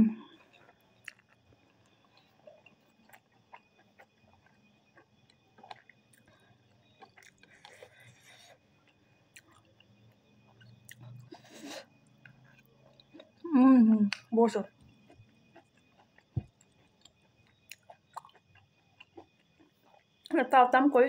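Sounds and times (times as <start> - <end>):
person chewing food: 0.2 - 20.3.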